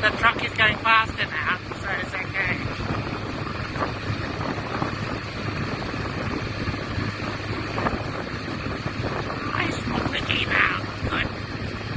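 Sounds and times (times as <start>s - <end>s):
motorcycle engine hum: 0.0s - 11.9s
road noise: 0.0s - 11.9s
wind buffeting microphone: 0.0s - 11.9s.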